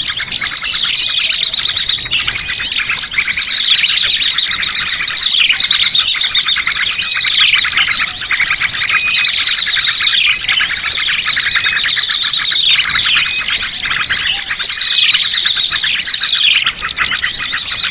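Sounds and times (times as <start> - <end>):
many small birds chirping: 0.0 - 17.9.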